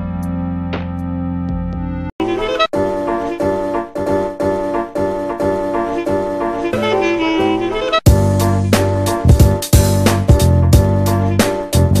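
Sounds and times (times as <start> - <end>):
instrumental music with heavy bass: 0.0 - 12.0.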